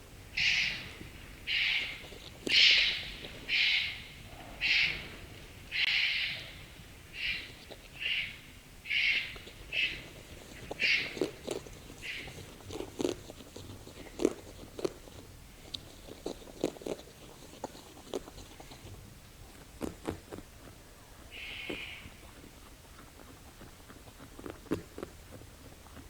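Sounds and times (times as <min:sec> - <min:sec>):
crunching chewing clicks: 0:00.0 - 0:26.0
wombat rasping calls: 0:00.4 - 0:05.1, 0:05.7 - 0:19.0, 0:21.2 - 0:26.0.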